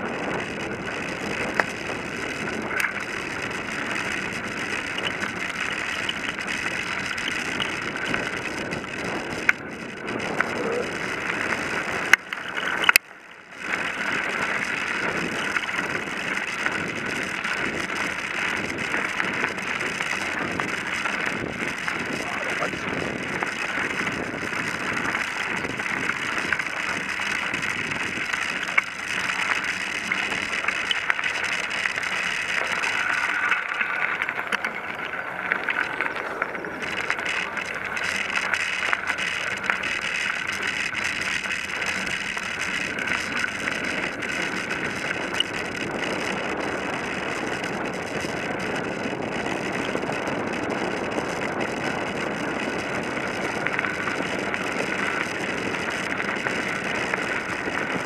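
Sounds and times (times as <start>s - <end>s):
bicycle tyres on gravel: 0.0s - 58.0s
bike rattling and clicking: 0.0s - 58.0s.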